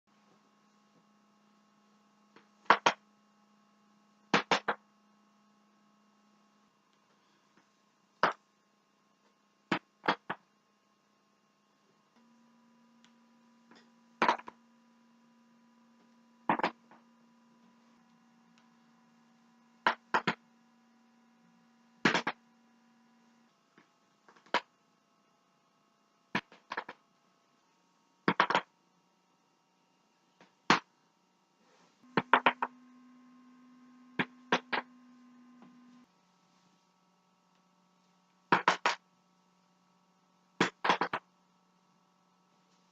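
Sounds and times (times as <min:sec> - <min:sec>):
faint steady hum: 0:00.1 - 0:42.9.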